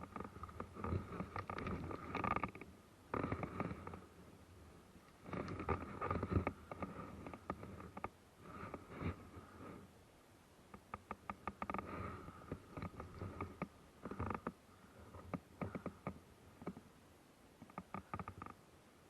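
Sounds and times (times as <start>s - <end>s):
faint rustling and crackling: 0.0s - 18.7s.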